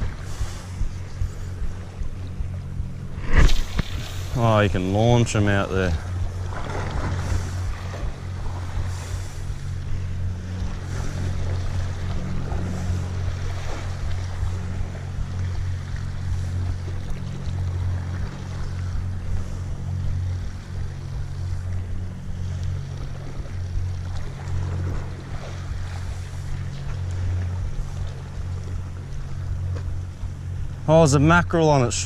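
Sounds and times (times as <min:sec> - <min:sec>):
sea washing against rock: 0:00.0 - 0:32.0
wind rumble on microphone: 0:00.0 - 0:32.0.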